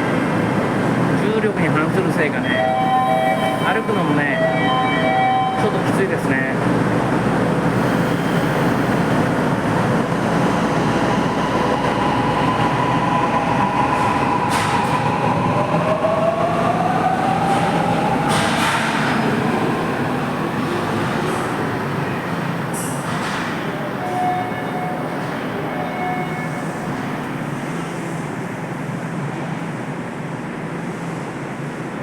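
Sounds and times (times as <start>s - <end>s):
subway train wheels rumbling: 0.0s - 32.0s.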